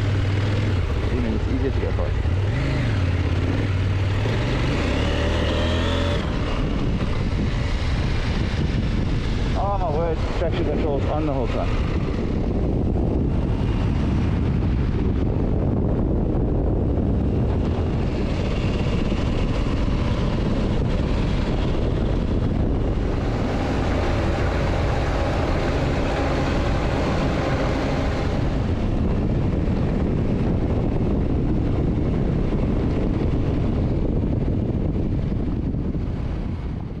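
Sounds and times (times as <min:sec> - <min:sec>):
motorcycle engine running: 0:00.0 - 0:37.0
wind rush over microphone: 0:00.0 - 0:37.0.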